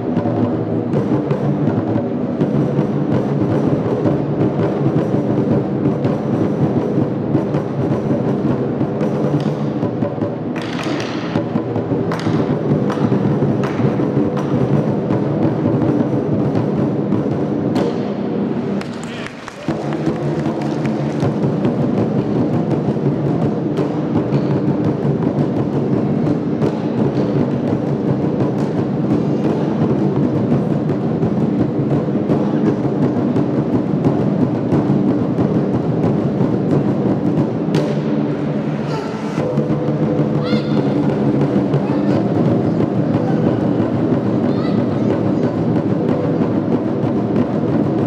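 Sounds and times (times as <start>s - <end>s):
sharp accented drum strikes: 0.0s - 48.0s.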